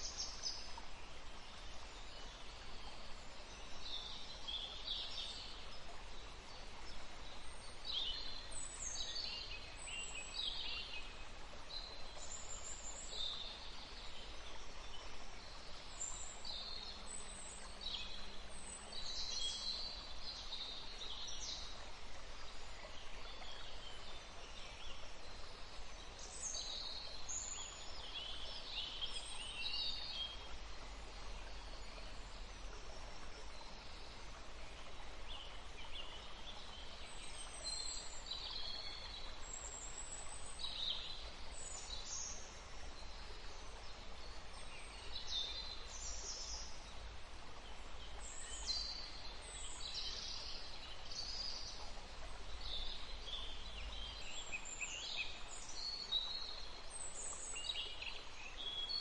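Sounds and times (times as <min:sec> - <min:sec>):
forest stream rushing: 0:00.0 - 0:59.0
songbirds chirping: 0:00.0 - 0:59.0.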